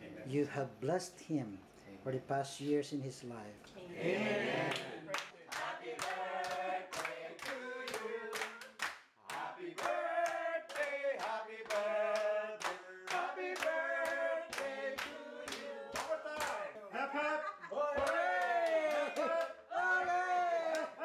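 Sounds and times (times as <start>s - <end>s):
group singing together: 3.9s - 21.0s.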